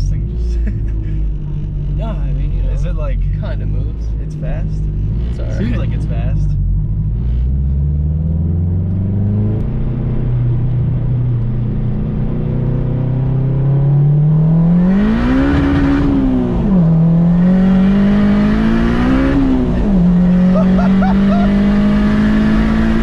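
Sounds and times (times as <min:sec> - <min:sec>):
turbocharged car engine revving: 0:00.0 - 0:23.0.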